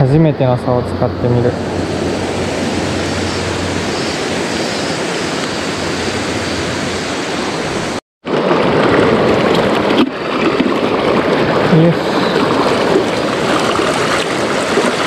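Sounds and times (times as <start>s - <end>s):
river water rushing over rocks: 1.6s - 15.0s.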